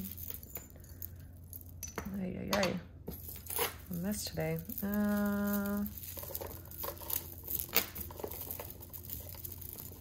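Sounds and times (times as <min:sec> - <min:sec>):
chain necklaces clicking and rustling: 0:00.0 - 0:02.3, 0:03.1 - 0:10.0.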